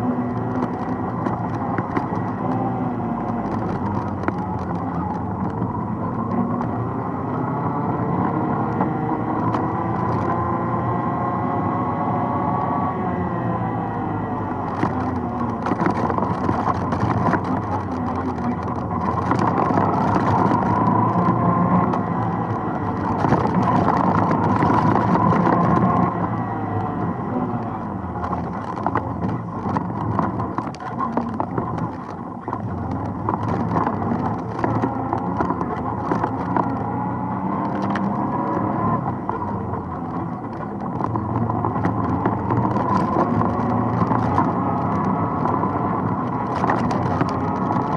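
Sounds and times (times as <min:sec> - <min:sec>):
atv engine revving: 0:00.0 - 0:47.9
knocks and rattles of vehicle: 0:00.0 - 0:47.9.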